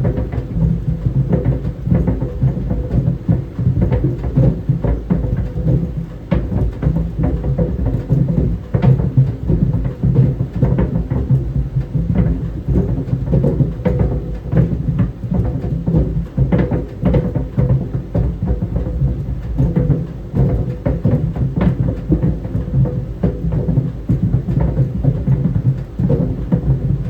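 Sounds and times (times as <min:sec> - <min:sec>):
clothes dryer drum rumbling: 0:00.0 - 0:27.0
tennis balls knocking in dryer: 0:00.0 - 0:27.0.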